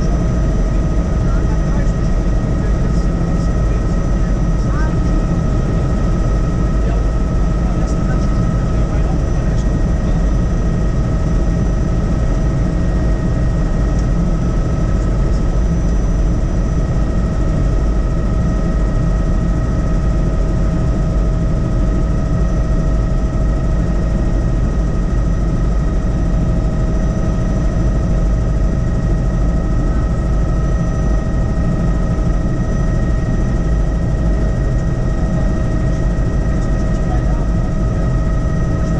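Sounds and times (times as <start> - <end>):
helicopter rotor and engine drone: 0.0 - 38.9.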